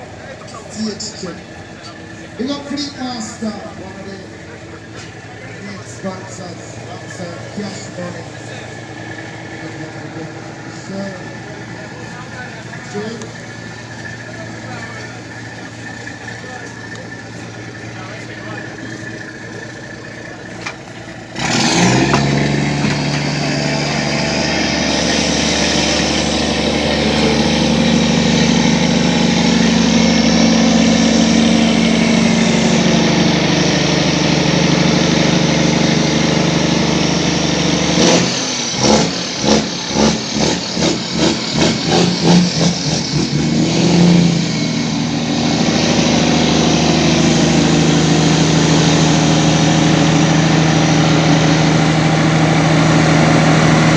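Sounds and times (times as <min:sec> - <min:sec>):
truck engine revving: 0:00.0 - 0:53.9
truck engine starting and idling: 0:00.0 - 0:53.9.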